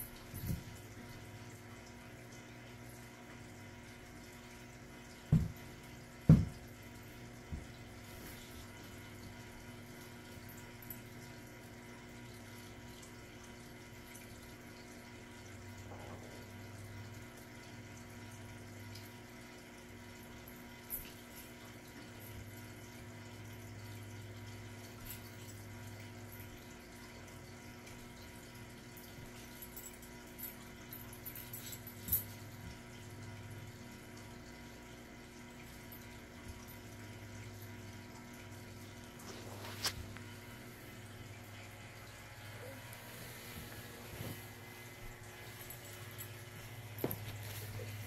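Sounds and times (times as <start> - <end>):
low hum and hiss of room noise: 0.0 - 48.0.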